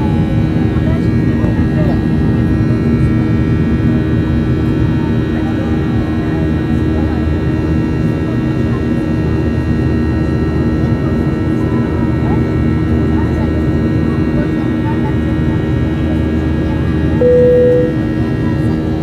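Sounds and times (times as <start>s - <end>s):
jet engine drone in aircraft cabin: 0.0s - 19.0s.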